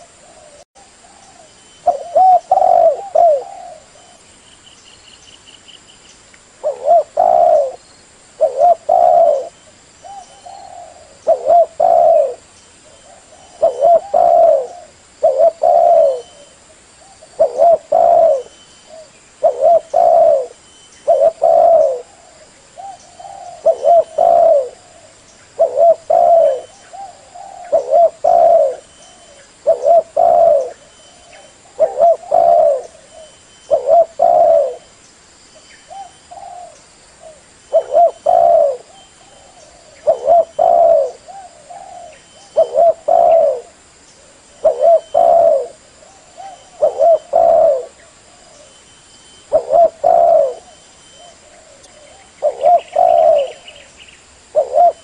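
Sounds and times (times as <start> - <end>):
dove cooing: 0.0 - 4.3, 6.6 - 7.8, 8.4 - 34.9, 35.8 - 48.8, 49.4 - 55.0.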